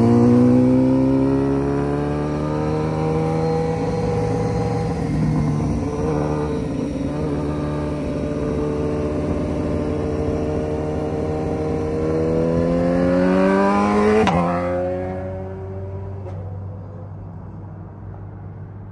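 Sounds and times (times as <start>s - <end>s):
motorcycle engine revving: 0.0s - 16.5s.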